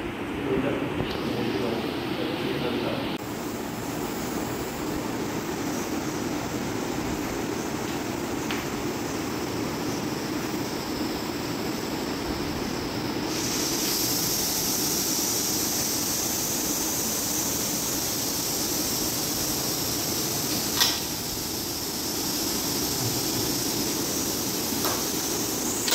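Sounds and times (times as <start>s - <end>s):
equipment hum and hiss: 0.0s - 25.9s
high air hiss: 0.0s - 25.9s.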